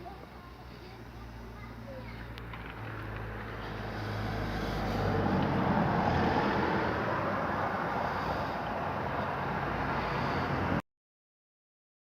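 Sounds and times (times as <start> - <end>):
road and wind noise: 0.0 - 10.8
vehicle engine hum: 0.0 - 10.8.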